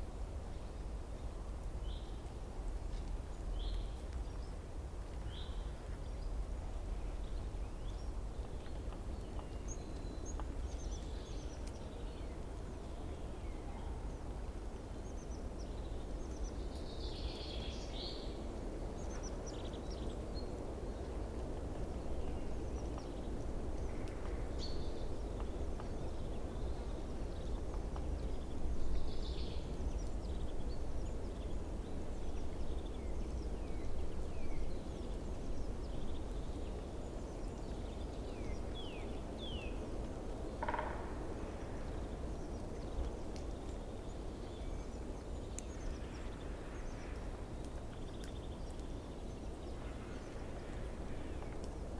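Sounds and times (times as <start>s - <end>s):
wild birds chirping: 7.0s - 51.9s.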